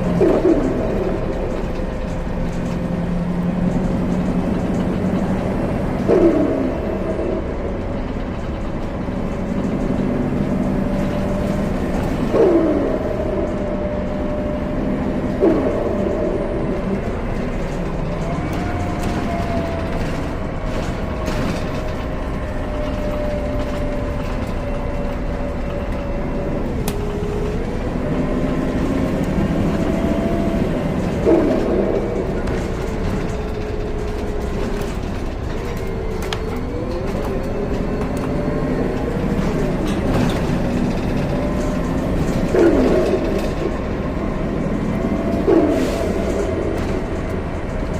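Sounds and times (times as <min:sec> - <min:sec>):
bus engine rumble: 0:00.0 - 0:47.9
drivetrain whine: 0:00.0 - 0:47.9.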